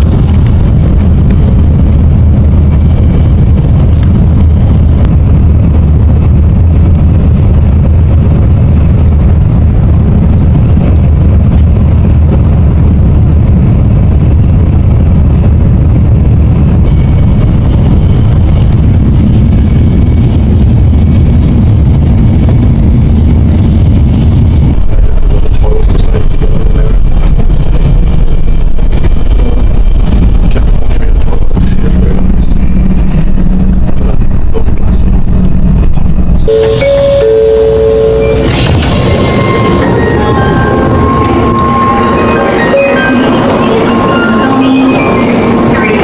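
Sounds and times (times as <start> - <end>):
low rumble of moving vehicle: 0.0 - 46.0.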